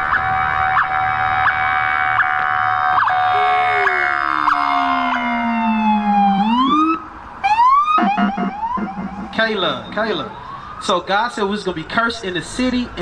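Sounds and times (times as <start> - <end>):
police car siren: 0.0 - 11.1.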